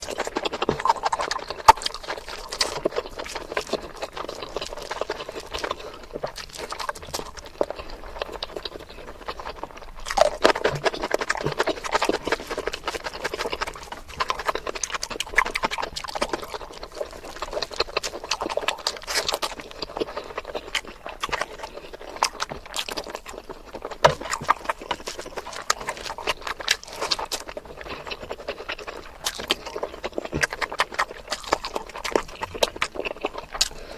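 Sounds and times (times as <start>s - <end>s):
wet chewing and lip-smacking: 0.0s - 33.9s.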